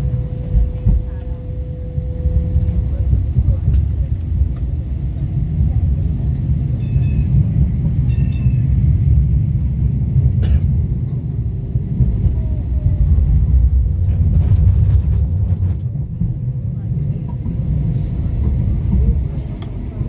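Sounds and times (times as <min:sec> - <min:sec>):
rumble of train wheels on track: 0:00.0 - 0:20.0.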